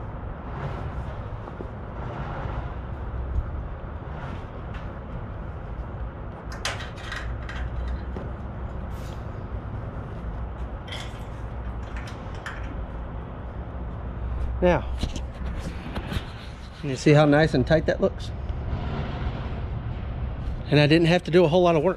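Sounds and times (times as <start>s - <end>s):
steady low rumble: 0.0s - 21.9s.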